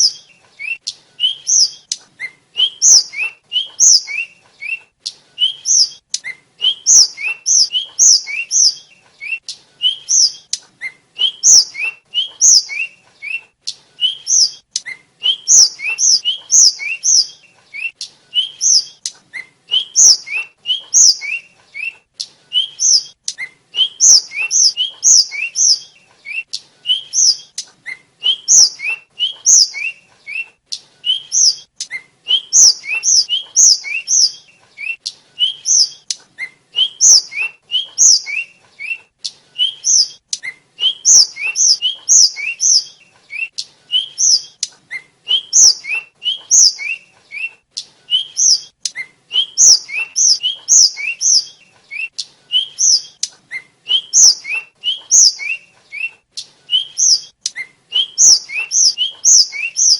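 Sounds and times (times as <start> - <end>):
flycatcher singing whistled notes: 0.0 - 39.0, 39.6 - 59.9.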